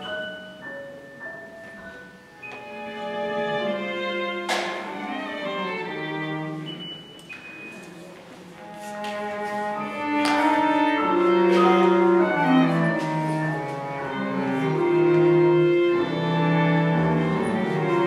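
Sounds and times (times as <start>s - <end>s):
piano: 0.0s - 18.0s.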